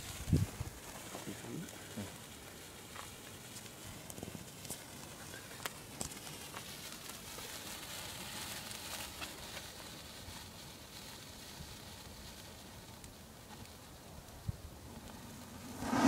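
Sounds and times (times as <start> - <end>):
crackles and pops: 0.0 - 16.0
sparkler bomb fizzing: 0.0 - 16.0.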